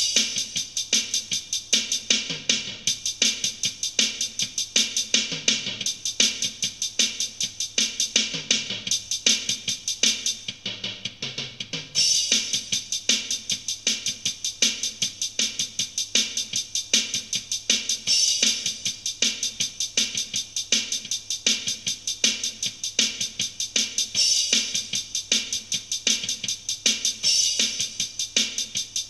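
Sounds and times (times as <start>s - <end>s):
electronic drum kit rock beat: 0.0s - 29.0s.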